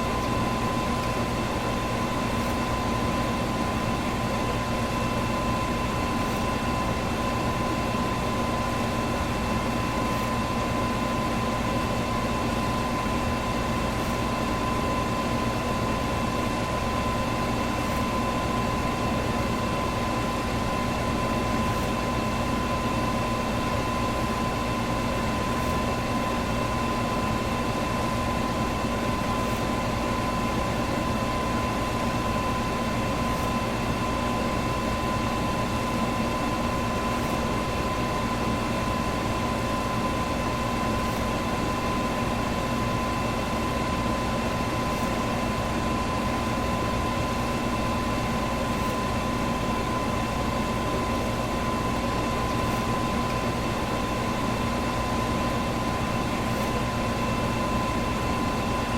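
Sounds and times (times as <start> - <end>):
electric fan running: 0.0 - 58.9.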